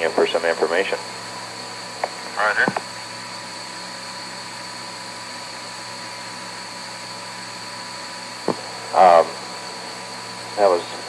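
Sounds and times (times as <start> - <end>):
faint hum tones: 0.0 - 11.0.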